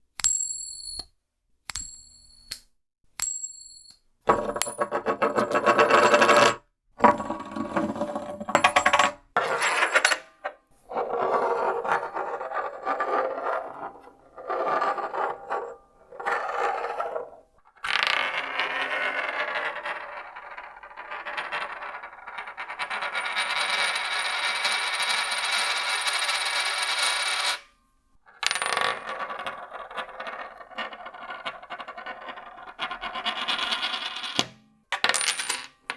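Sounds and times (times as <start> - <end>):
coin clattering on hard surface: 4.3 - 10.2, 11.0 - 27.6, 28.4 - 35.9.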